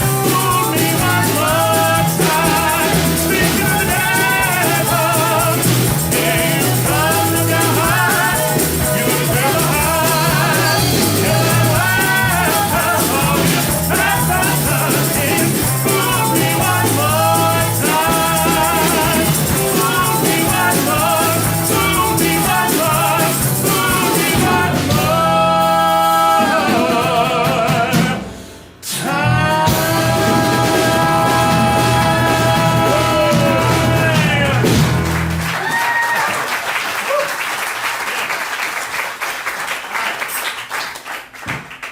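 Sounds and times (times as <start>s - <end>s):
live rock-country band: 0.0s - 28.4s, 29.0s - 36.0s.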